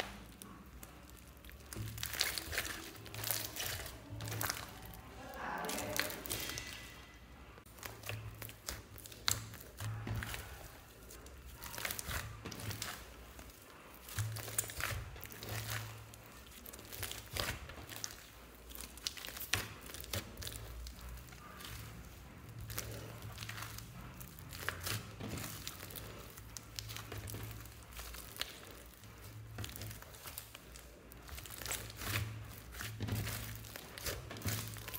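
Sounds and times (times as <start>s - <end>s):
hands squelching sticky slime: 0.0s - 34.9s.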